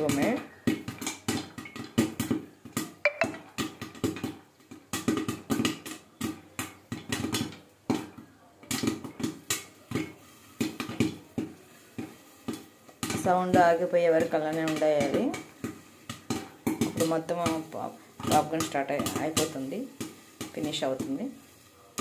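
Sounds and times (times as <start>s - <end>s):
popcorn popping under lid: 0.0s - 22.0s.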